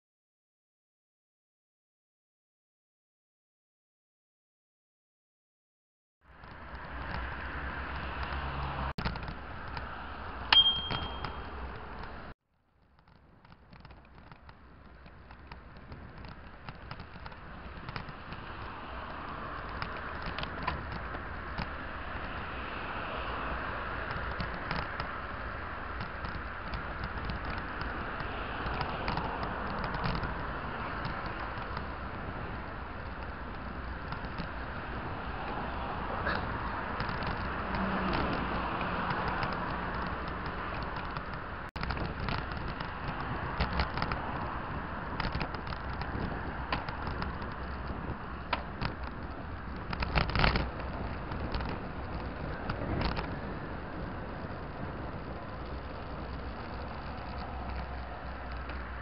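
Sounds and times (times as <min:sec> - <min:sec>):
tyre and wind noise: 0:06.2 - 0:59.0
bicycle clicks and rattles: 0:06.3 - 0:59.0.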